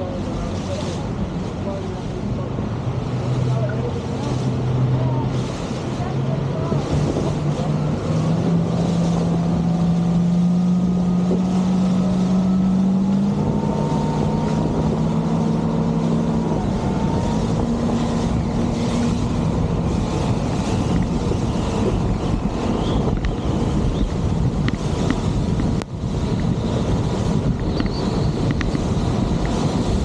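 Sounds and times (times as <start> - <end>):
motorboat engine drone: 0.0 - 30.0
water rushing past hull: 0.0 - 30.0
wind buffeting microphone: 0.0 - 30.0.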